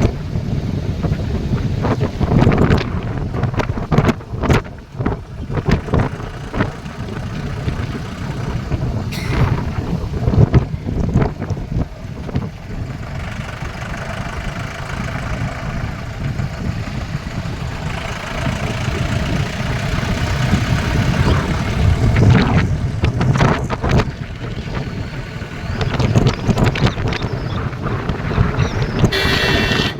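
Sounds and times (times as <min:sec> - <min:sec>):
engine running: 0:00.0 - 0:29.9
low rumbling noise: 0:00.0 - 0:29.9.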